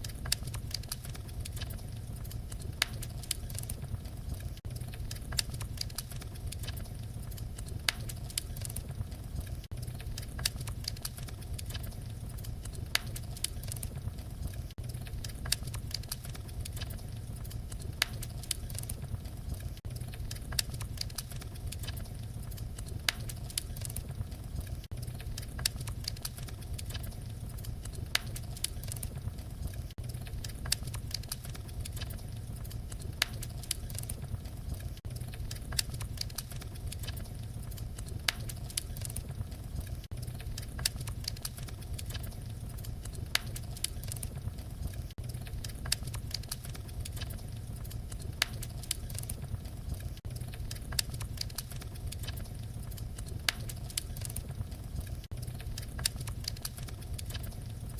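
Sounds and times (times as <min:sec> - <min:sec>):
fire crackling pops and snaps: 0:00.0 - 0:57.9
low rumble of flames: 0:00.0 - 0:57.9.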